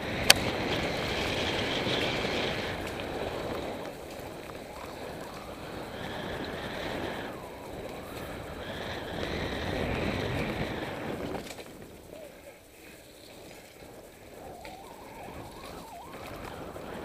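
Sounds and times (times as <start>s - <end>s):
bike tyres rolling on dirt: 0.0s - 17.0s
light bike clicks: 0.0s - 17.0s
wind rushing over microphone: 0.0s - 17.0s.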